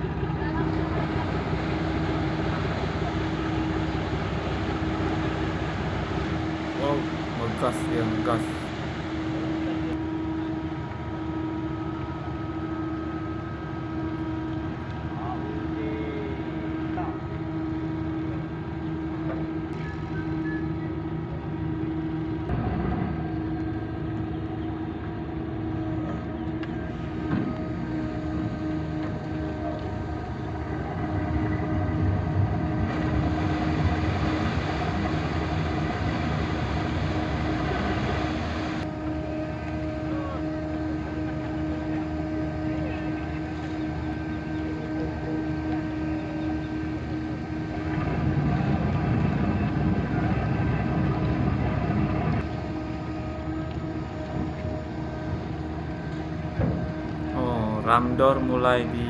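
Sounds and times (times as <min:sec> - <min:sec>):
ship engines rumbling: 0:00.0 - 0:59.0.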